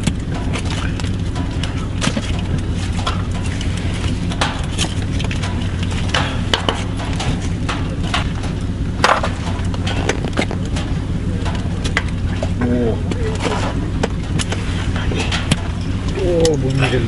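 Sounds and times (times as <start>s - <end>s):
light clicks and knocks: 0.0s - 17.0s
steady low hum: 0.0s - 17.0s.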